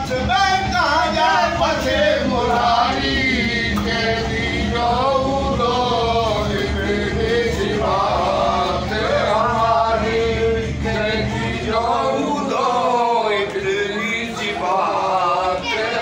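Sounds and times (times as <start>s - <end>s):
men singing devotional song: 0.0s - 16.0s.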